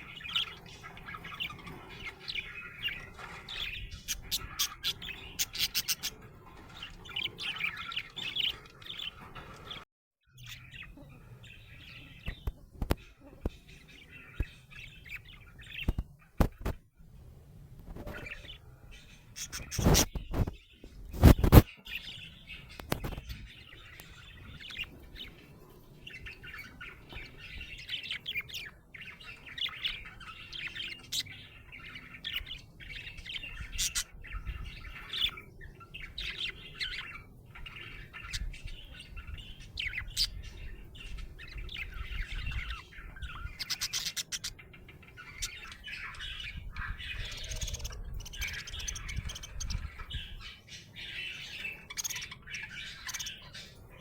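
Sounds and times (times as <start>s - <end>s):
budgerigars chattering: 0.0s - 9.8s, 17.9s - 20.5s, 21.2s - 54.0s.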